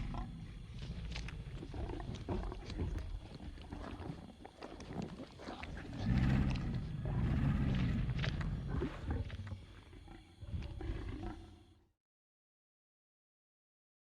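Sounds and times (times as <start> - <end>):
deep animal growl: 0.0 - 11.8.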